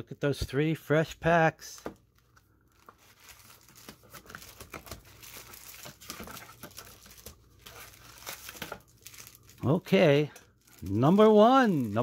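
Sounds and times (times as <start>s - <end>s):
plastic wrapper crinkling: 1.6s - 12.0s.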